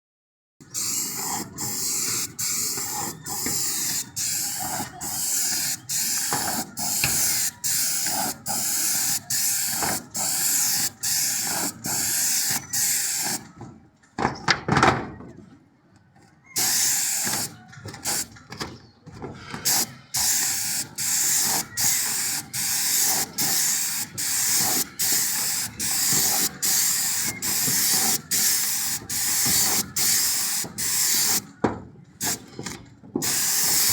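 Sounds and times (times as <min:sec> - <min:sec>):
paint sprayer hissing: 0:00.6 - 0:13.4, 0:16.6 - 0:18.3, 0:19.6 - 0:31.5, 0:32.2 - 0:32.5, 0:33.2 - 0:33.9.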